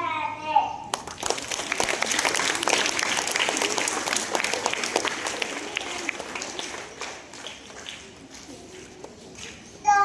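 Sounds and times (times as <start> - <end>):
group of people clapping: 0.9 - 9.6.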